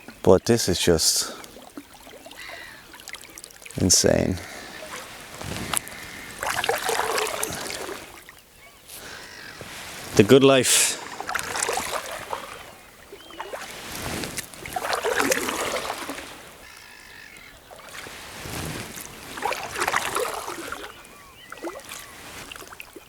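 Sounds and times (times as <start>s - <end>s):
faint bird calls: 0.0s - 23.0s
paddle strokes swishing water: 0.0s - 23.0s.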